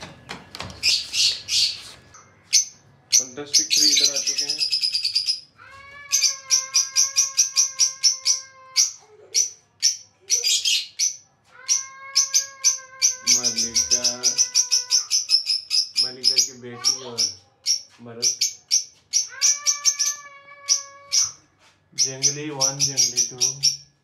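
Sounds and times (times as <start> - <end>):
lovebirds chirping: 0.0 - 24.0.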